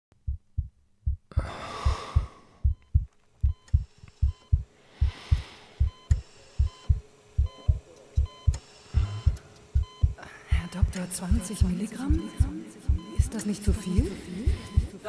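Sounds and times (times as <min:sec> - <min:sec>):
heartbeat thumps: 0:00.1 - 0:15.0.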